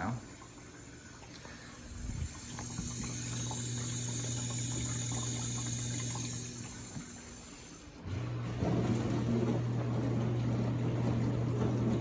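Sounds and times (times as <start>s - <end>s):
water rushing into dishwasher: 0.0s - 12.0s.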